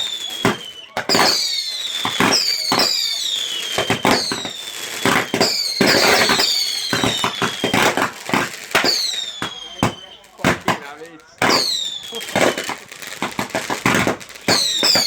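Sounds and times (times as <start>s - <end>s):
fireworks banging: 0.0s - 15.0s
fireworks crackling: 0.0s - 15.0s
fireworks whistling: 0.0s - 15.0s.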